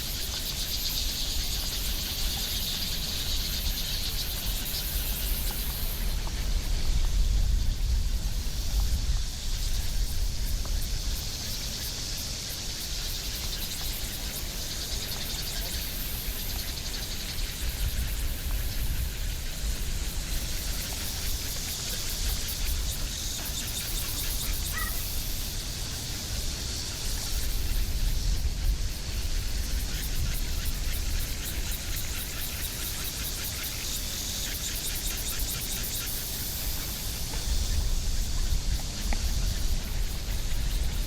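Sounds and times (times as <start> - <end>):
high insect-like hiss: 0.0 - 41.0.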